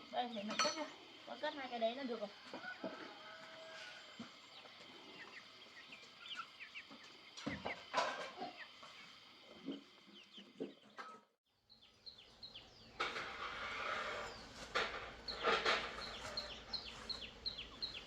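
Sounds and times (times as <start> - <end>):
small birds chirping: 0.0 - 18.0
chickens calling: 2.2 - 11.2, 11.8 - 18.0.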